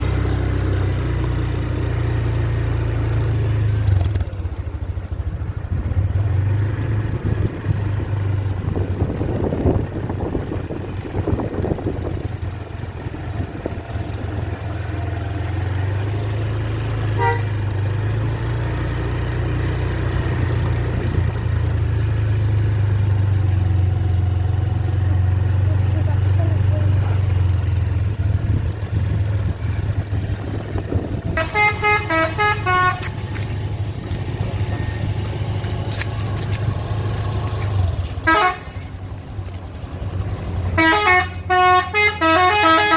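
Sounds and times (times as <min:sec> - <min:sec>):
bus engines humming: 0:00.0 - 0:42.9.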